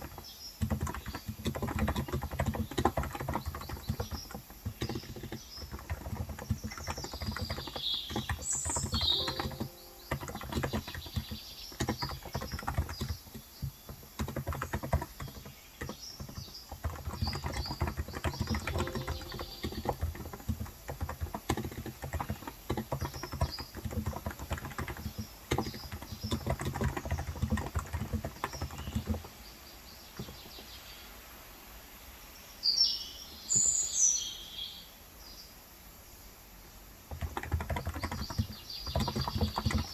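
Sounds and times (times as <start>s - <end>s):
fast keyboard typing: 0.0s - 29.4s, 30.1s - 30.6s, 37.1s - 39.9s
birds chirping outside: 0.0s - 39.9s.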